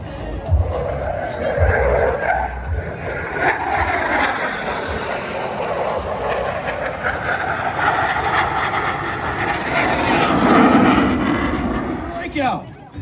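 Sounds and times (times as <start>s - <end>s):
aircraft engine drone: 0.0s - 13.0s.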